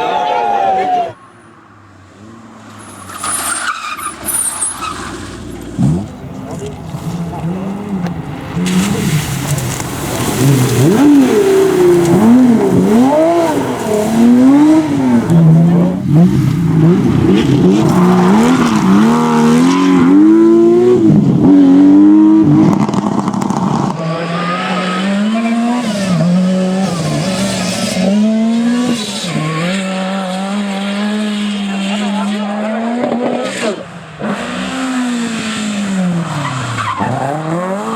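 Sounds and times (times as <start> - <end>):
rally car engines revving: 0.0 - 37.9.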